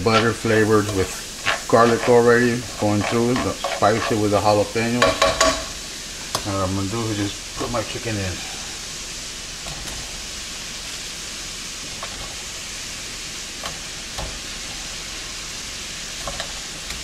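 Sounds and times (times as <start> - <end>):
butter sizzling in a skillet: 0.0 - 17.0.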